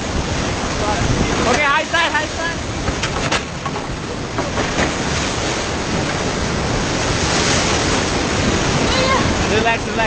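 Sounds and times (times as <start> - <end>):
river rapids rushing: 0.0 - 10.0.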